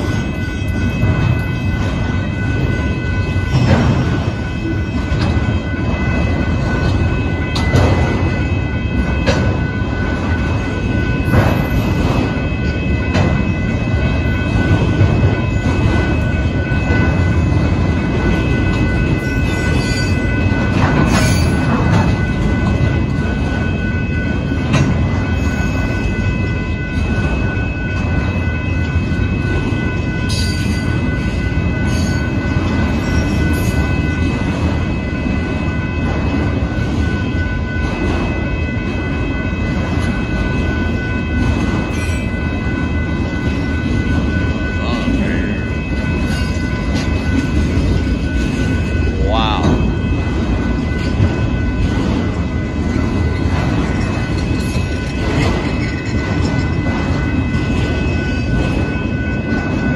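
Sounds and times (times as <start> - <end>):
crossing signal bell ringing: 0.0 - 59.9
freight train wheels rumbling: 0.0 - 59.9
train clanks: 0.0 - 59.9.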